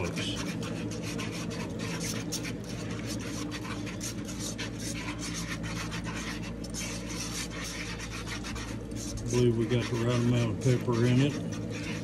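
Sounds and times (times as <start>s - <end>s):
low steady hum: 0.0s - 12.0s
whisk scraping a pot: 0.0s - 12.0s.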